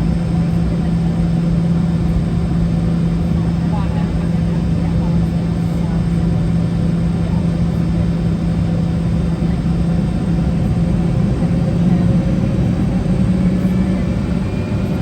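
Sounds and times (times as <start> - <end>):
jet engines droning in cabin: 0.0 - 15.0.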